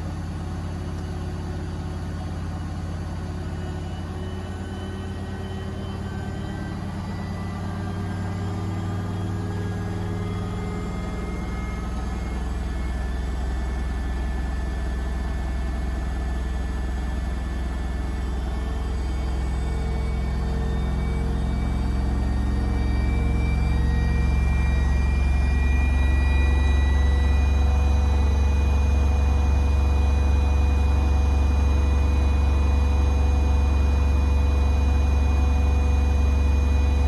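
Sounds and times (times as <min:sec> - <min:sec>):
washing machine spinning: 0:00.0 - 0:37.0.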